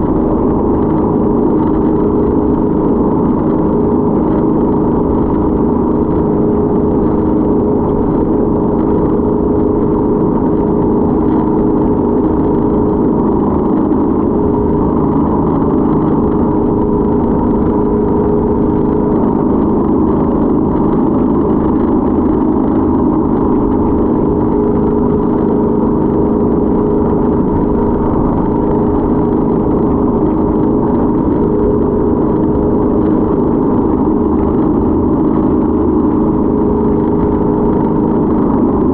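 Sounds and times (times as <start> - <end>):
motorboat engine drone: 0.0 - 38.9.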